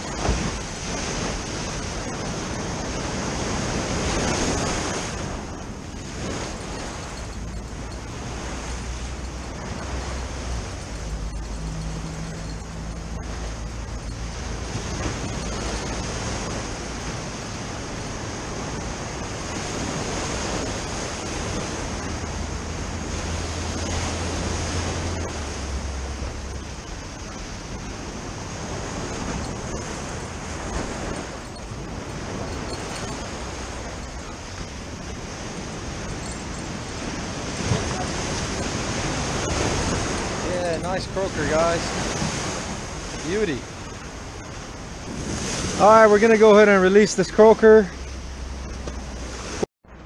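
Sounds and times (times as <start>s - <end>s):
ocean waves breaking: 0.0s - 50.0s.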